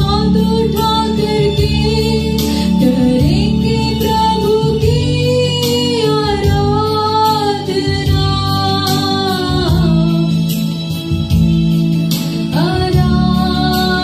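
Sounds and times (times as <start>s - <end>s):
instrumental accompaniment: 0.0s - 14.0s
woman singing into a microphone: 0.0s - 14.0s.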